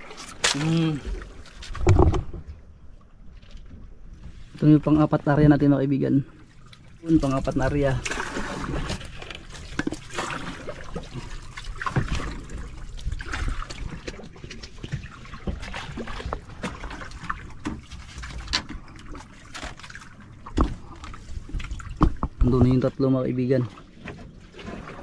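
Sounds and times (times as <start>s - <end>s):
water sloshing against a hull: 0.0s - 25.0s.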